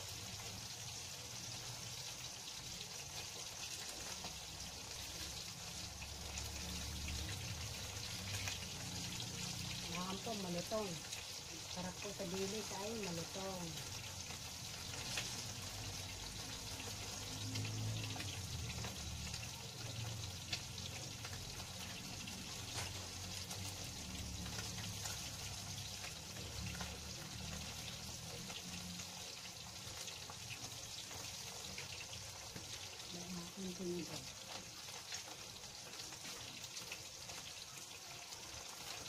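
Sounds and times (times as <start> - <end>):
food frying in hot oil: 0.0 - 39.0
oil crackling and popping: 0.0 - 39.0.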